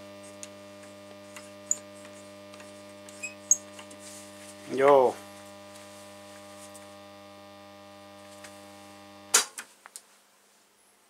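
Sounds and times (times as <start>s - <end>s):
tube radio mains hum: 0.0s - 9.5s.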